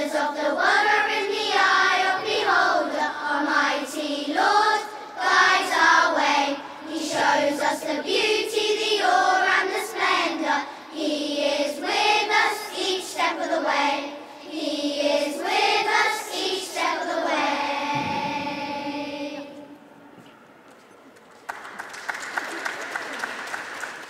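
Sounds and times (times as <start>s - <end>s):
children's choir singing: 0.0s - 20.1s.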